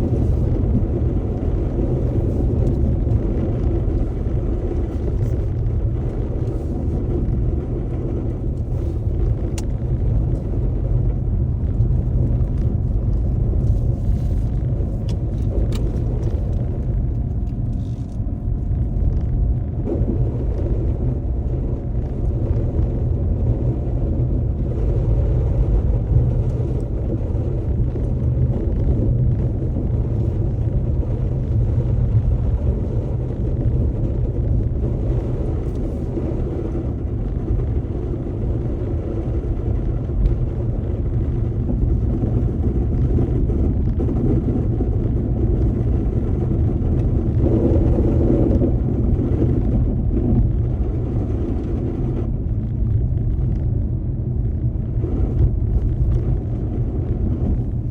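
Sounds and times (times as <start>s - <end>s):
car engine and tyres rumbling: 0.0s - 57.9s.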